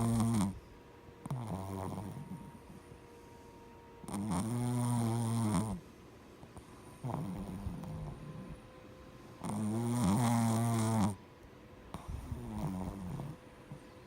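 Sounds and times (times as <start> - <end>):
pet snoring: 0.0 - 3.0, 4.0 - 8.7, 9.4 - 11.2, 11.9 - 14.0.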